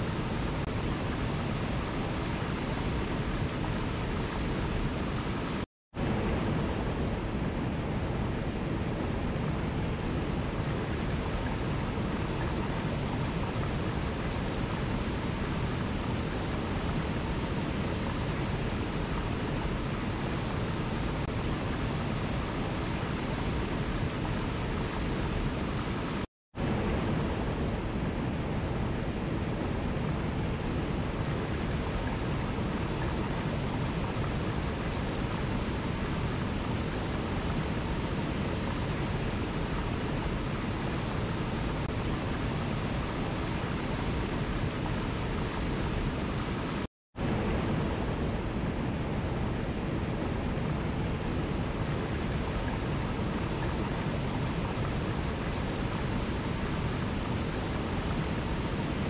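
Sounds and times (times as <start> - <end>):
water rushing through a cascade: 0.0 - 59.0.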